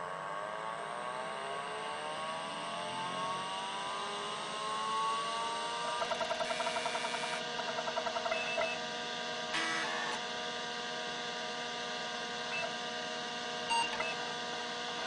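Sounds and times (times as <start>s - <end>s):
hard disk motor whine rising: 0.0s - 15.0s.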